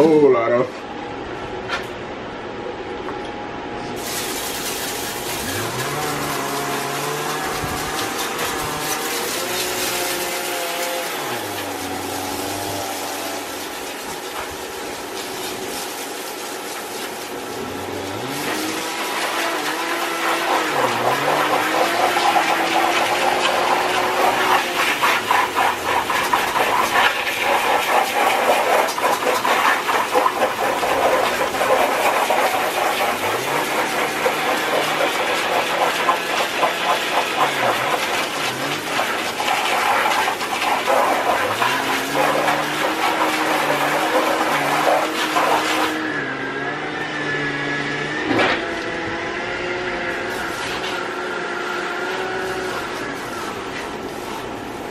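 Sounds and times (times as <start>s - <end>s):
hose spraying water on metal crate: 4.0s - 46.1s, 49.6s - 54.9s.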